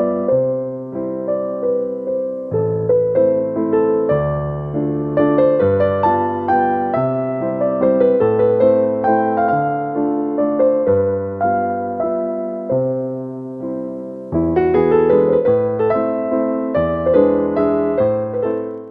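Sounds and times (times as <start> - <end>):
gentle electric piano melody: 0.0 - 18.9.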